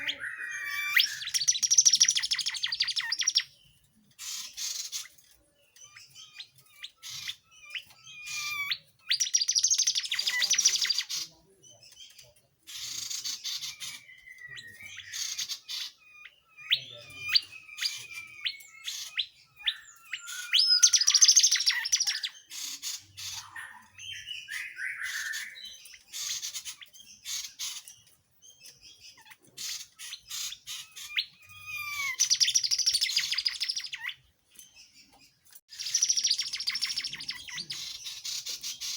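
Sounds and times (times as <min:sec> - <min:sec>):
songbird trills and whistles: 0:00.0 - 0:35.0, 0:35.7 - 0:38.9.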